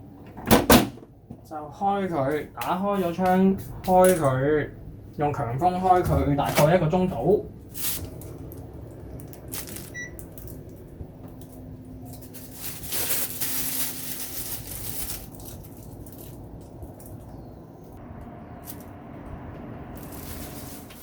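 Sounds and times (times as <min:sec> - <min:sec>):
air conditioner hum: 0:00.0 - 0:21.0.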